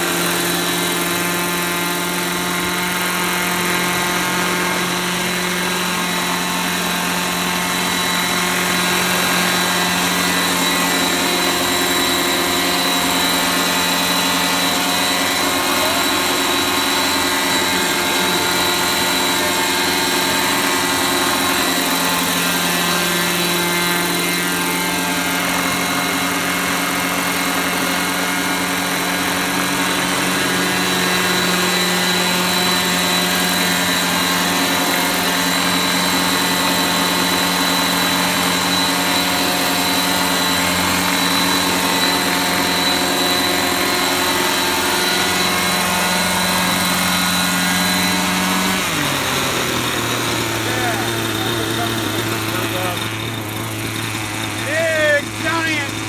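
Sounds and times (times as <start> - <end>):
model helicopter engine and rotors: 0.0 - 56.0.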